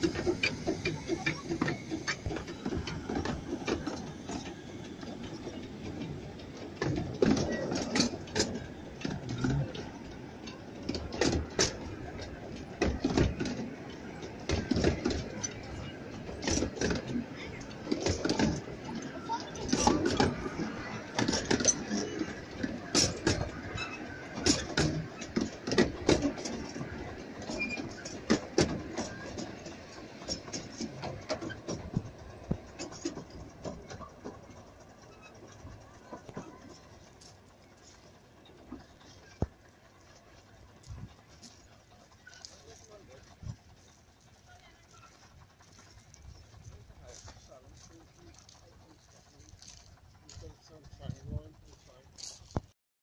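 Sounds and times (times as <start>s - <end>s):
low rumble of carriages: 0.0s - 52.8s
wheels clicking over rail joints: 0.0s - 52.8s.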